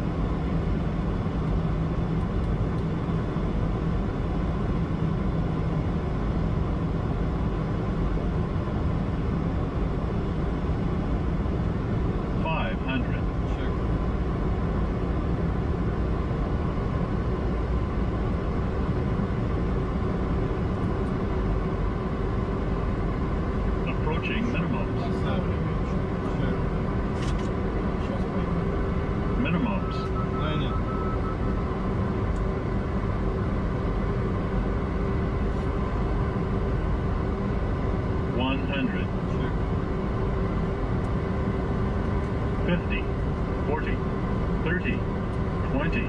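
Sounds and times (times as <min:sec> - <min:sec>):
airflow and engine noise in cockpit: 0:00.0 - 0:46.0.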